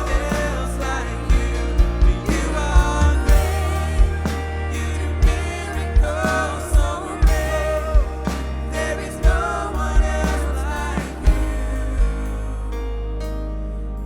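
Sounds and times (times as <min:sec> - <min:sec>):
people singing: 0:00.0 - 0:14.0
worship band playing: 0:00.0 - 0:14.0.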